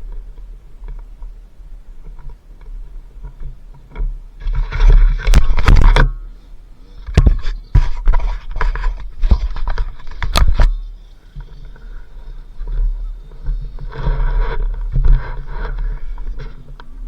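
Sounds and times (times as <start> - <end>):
wind buffeting microphone: 0.0 - 17.0
knocks and scrapes: 2.0 - 6.2, 6.9 - 17.0.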